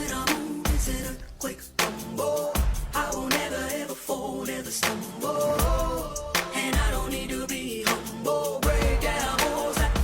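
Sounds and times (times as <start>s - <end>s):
person singing: 0.0s - 10.0s
pop song with heavy bass drum: 0.0s - 10.0s.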